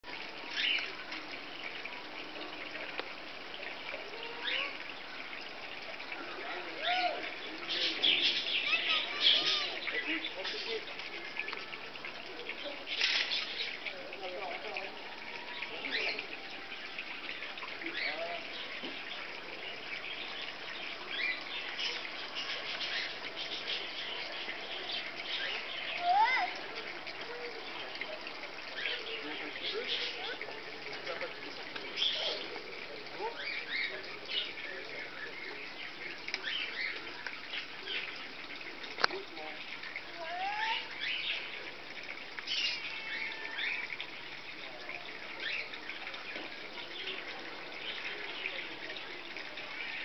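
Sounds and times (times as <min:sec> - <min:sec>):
small birds chirping: 0:00.3 - 0:50.0.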